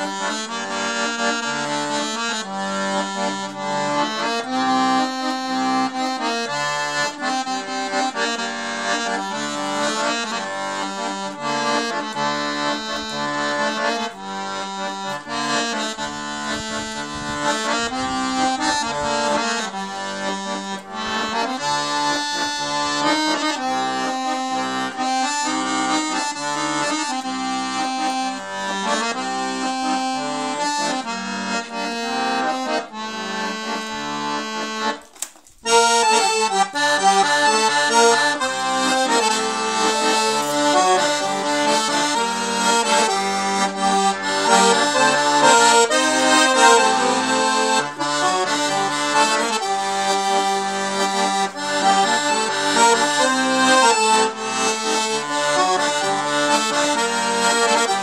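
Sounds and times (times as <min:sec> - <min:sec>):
piano accordion folk tune: 0:00.0 - 0:58.0.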